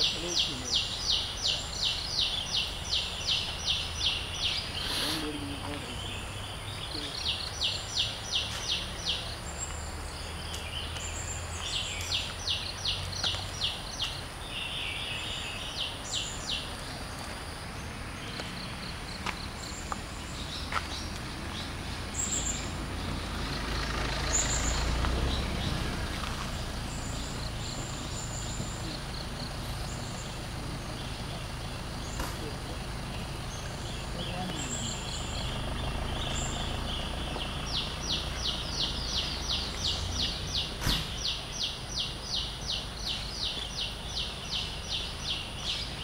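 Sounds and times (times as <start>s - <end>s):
bird chirping: 0.0s - 46.0s.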